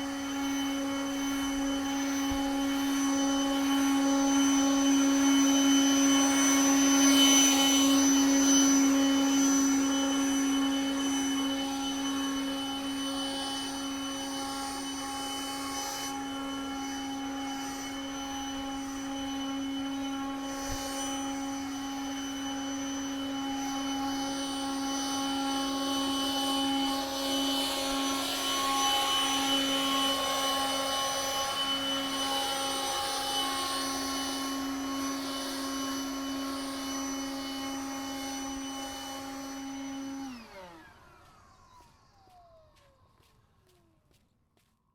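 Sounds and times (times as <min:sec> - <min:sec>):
snow blower whining: 0:00.0 - 0:44.2.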